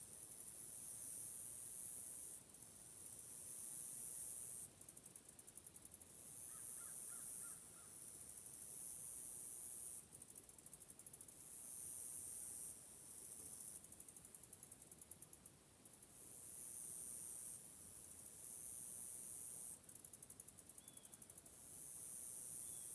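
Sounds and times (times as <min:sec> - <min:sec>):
insect chorus buzzing and trilling: 0:00.1 - 0:22.9.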